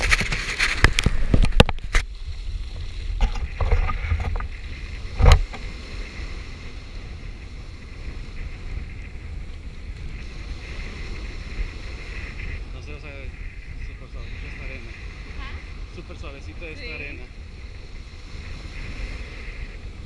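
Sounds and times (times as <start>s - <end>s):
small waves breaking on shore: 0.0s - 20.0s
wind buffeting microphone: 0.0s - 20.0s.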